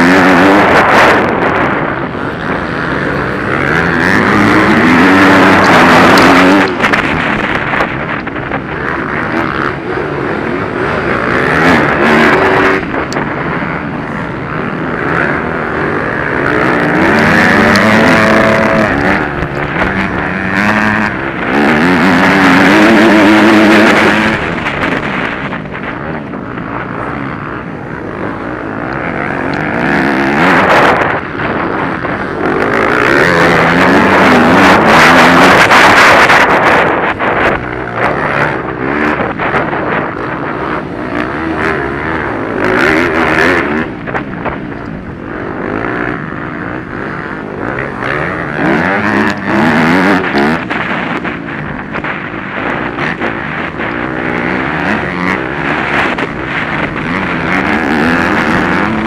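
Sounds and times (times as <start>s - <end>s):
motorcycle engine revving: 0.0s - 59.0s
rush of noise: 0.0s - 59.0s.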